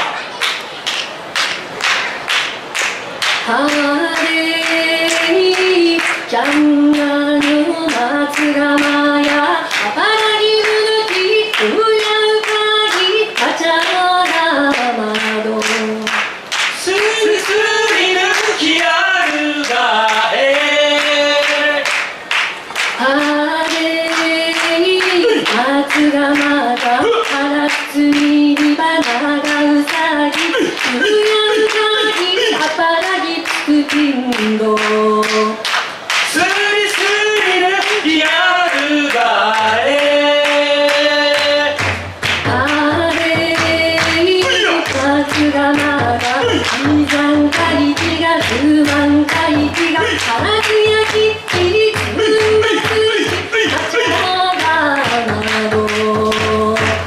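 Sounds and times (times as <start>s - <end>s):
hand claps: 0.0s - 57.0s
voices singing unaccompanied: 3.4s - 22.1s, 22.9s - 35.6s, 36.3s - 57.0s.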